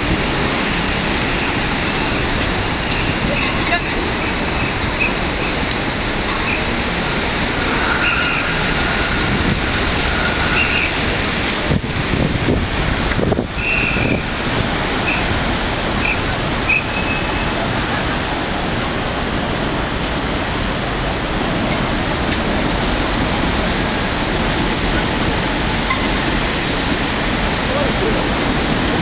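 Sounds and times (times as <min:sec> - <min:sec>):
heavy rain and wind: 0:00.0 - 0:29.0.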